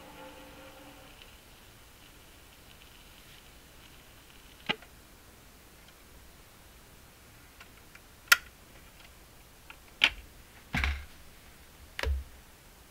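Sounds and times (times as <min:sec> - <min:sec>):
vinyl record surface hiss: 0:00.0 - 0:12.9.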